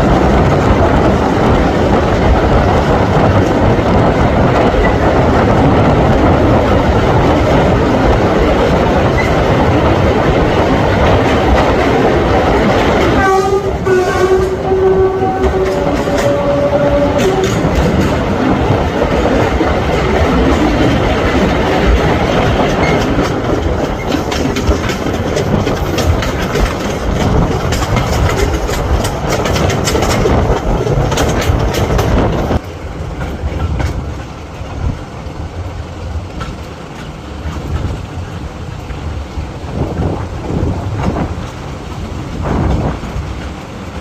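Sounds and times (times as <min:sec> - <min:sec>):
train coaches rumbling: 0:00.0 - 0:44.0
wheels clattering over rail joints: 0:00.0 - 0:44.0.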